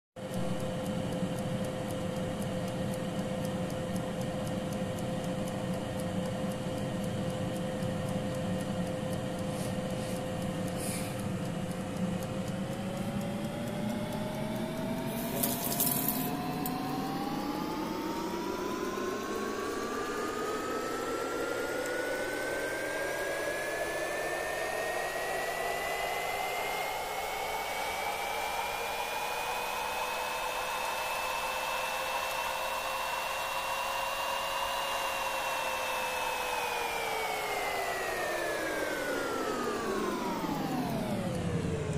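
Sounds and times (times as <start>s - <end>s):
air fryer fan whirring: 0.2s - 41.9s.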